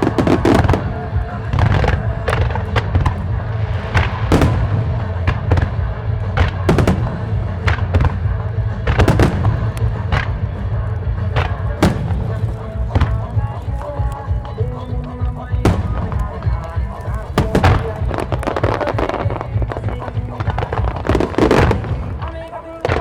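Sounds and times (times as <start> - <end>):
fireworks bursting: 0.0 - 23.0
pop music over loudspeakers: 0.0 - 23.0.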